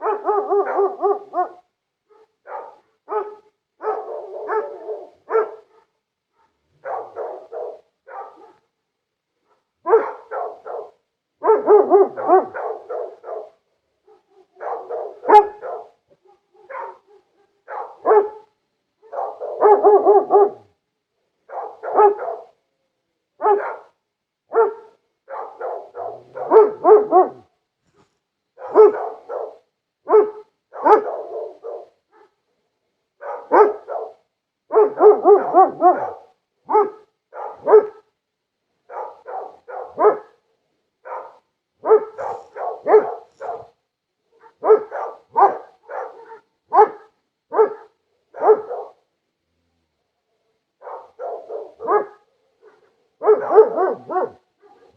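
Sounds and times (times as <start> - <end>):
dogs barking: 0.0 - 8.7, 9.5 - 20.7, 21.5 - 22.6, 23.4 - 27.5, 28.6 - 32.4, 33.2 - 38.1, 38.9 - 40.4, 41.0 - 43.8, 44.4 - 49.0, 50.8 - 54.9.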